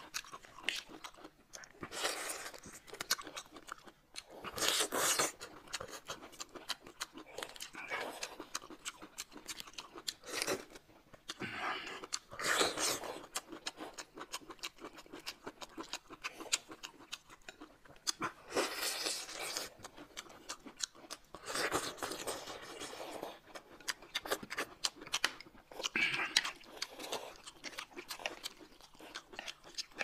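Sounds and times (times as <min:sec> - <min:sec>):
close chewing and biting: 0:00.0 - 0:30.0.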